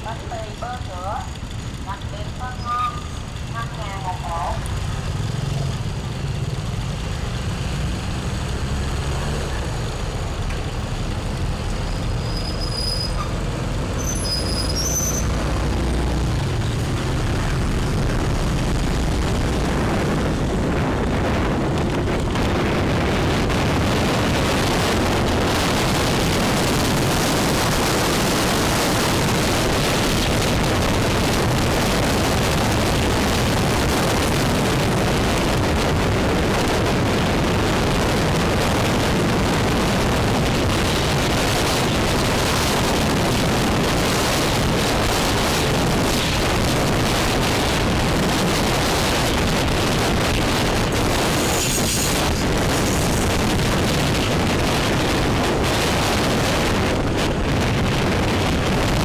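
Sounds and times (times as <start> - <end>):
motorbike engine hum: 0.0 - 59.0
wind noise over microphone: 7.6 - 59.0.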